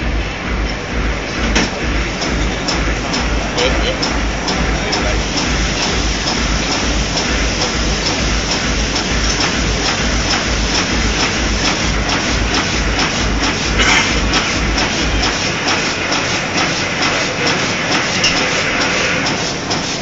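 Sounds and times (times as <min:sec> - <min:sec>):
loud steady background din: 0:00.0 - 0:20.0.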